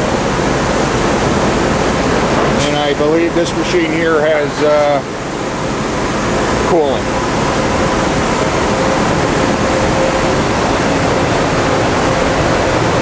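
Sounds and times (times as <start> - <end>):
faint machine hum: 0.0 - 13.0
machinery rushing noise: 0.0 - 13.0.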